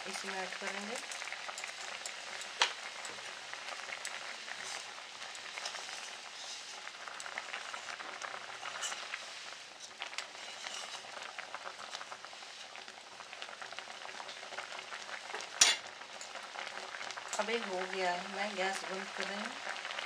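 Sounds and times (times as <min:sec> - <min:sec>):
curry bubbling and popping: 0:00.0 - 0:20.0.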